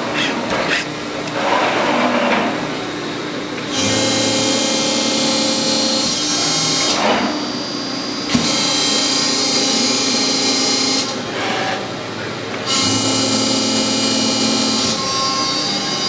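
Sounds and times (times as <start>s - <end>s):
hydraulic press whining: 0.0s - 16.0s.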